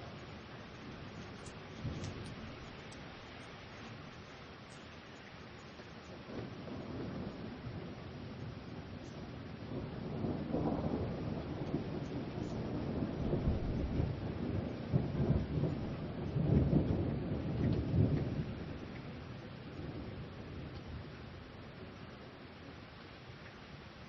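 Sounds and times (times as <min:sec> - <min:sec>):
thunder rumbling: 0:00.0 - 0:04.8, 0:05.6 - 0:22.8
steady rain: 0:00.0 - 0:24.0.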